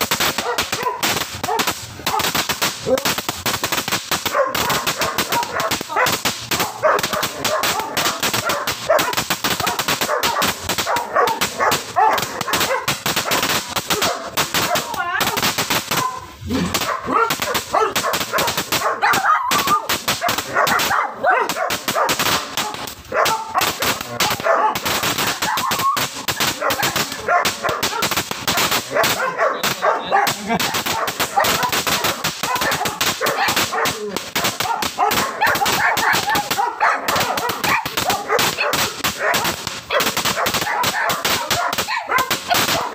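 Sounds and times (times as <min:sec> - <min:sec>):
crackling fountain firework: 0:00.0 - 0:42.9
dog barking: 0:00.4 - 0:02.4, 0:04.3 - 0:25.7, 0:26.4 - 0:42.9.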